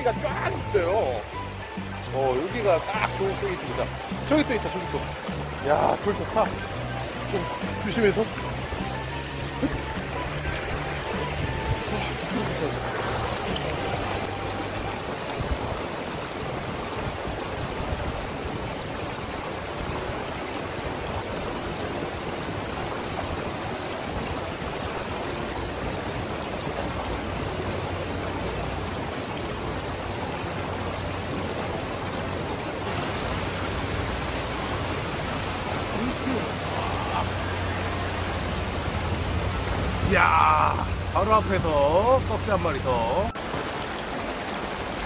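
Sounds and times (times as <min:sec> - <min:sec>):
river water rushing over rocks: 0:00.0 - 0:45.0.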